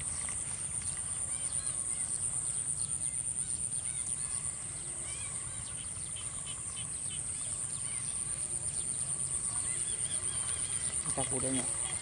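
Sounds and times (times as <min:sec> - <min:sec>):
high-pitched insect trill: 0:00.0 - 0:12.0
small birds chirping: 0:00.0 - 0:12.0.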